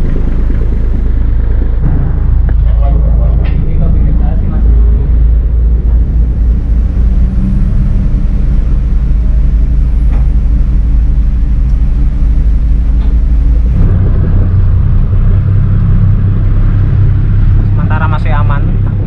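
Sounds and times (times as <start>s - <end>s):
boat diesel engines droning: 0.0s - 19.0s.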